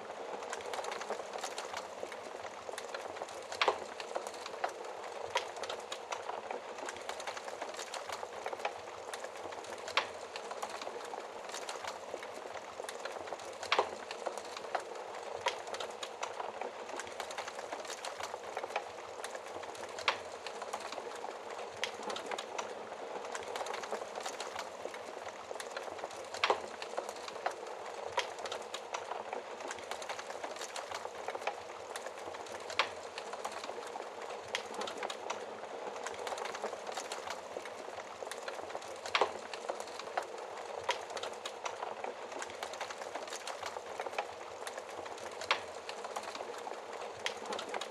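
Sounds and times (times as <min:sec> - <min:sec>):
wood fire crackling: 0:00.0 - 0:47.9
fire popping: 0:00.2 - 0:47.9.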